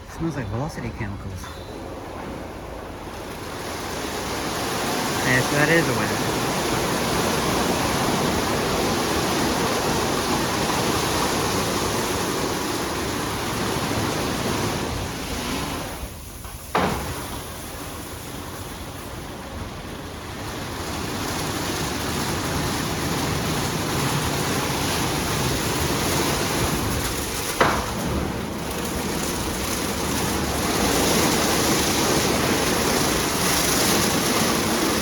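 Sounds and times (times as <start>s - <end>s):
car wash water spray on car: 3.3s - 35.0s.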